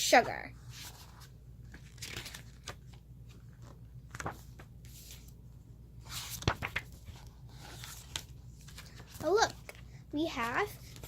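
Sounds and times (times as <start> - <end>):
paper pages rustling: 0.6 - 5.4, 6.0 - 11.0.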